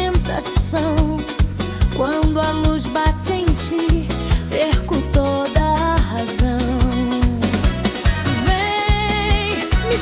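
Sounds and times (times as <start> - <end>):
upbeat pop song: 0.0 - 10.0.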